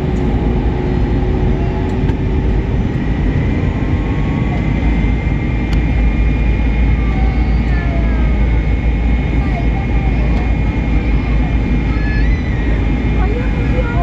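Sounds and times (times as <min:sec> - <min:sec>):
engine and airflow din: 0:00.0 - 0:14.0.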